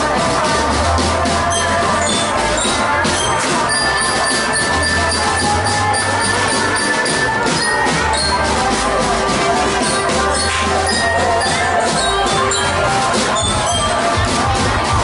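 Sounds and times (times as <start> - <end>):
marching drums: 0.0 - 15.0
brass notes: 0.2 - 15.0.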